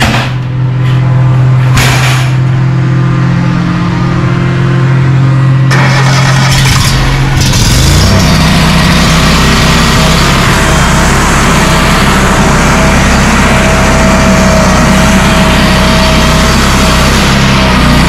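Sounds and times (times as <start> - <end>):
loud rough rushing noise: 0.0 - 18.0
petrol engine running: 0.0 - 18.0.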